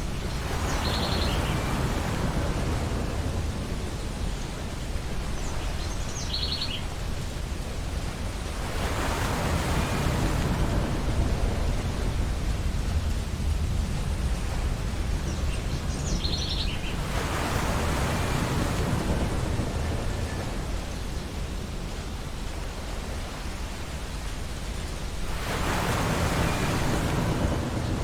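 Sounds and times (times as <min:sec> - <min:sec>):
ocean waves washing onto beach: 0:00.0 - 0:28.0.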